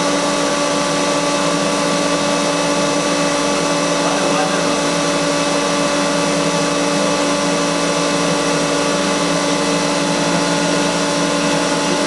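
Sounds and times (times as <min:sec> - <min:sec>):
pump and motor humming: 0:00.0 - 0:12.0.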